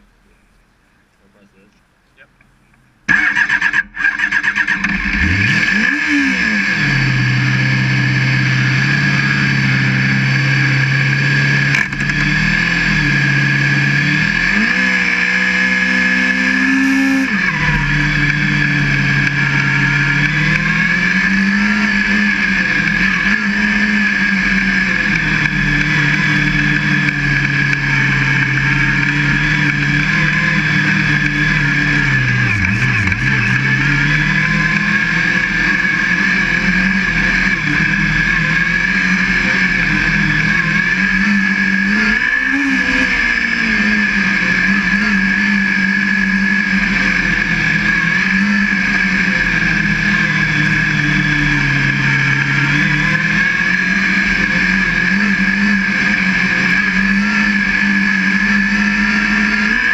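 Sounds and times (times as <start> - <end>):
steady high whine: 0.0 - 59.9
race car engine revving: 1.4 - 59.9.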